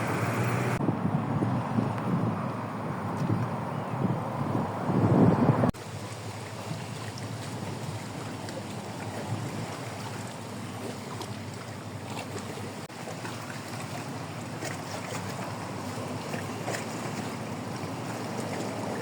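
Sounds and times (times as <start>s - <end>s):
wind rumbling on microphone: 0.0s - 11.2s, 13.9s - 19.0s
water noise: 0.0s - 19.0s.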